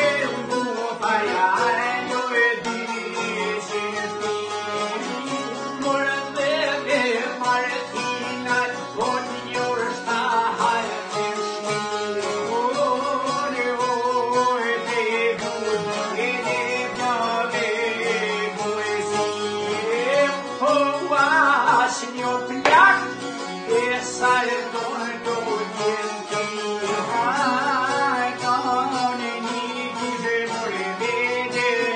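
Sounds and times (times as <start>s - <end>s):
accordion: 0.0s - 31.9s
man singing folk song: 0.0s - 31.9s
strummed lutes: 0.0s - 31.9s.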